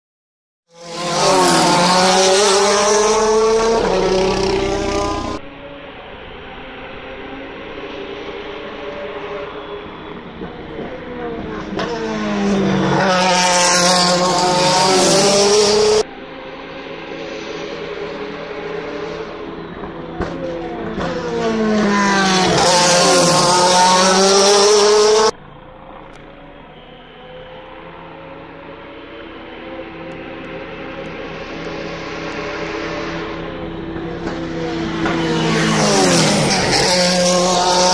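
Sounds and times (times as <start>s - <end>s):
race car passing at speed: 0.8s - 37.9s
dull engine drone: 0.9s - 37.9s.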